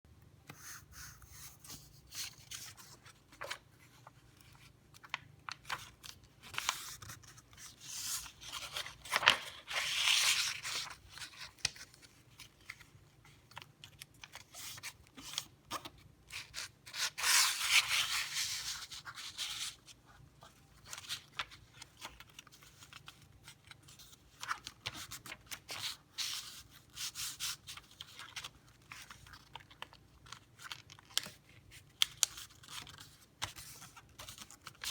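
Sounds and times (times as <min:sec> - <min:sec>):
paper crackling and rustling: 0:02.1 - 0:19.9, 0:20.8 - 0:34.9.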